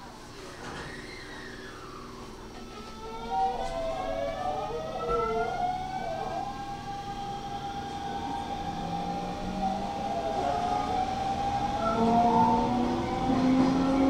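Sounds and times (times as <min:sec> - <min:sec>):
electric train motors whining: 0:01.1 - 0:14.0.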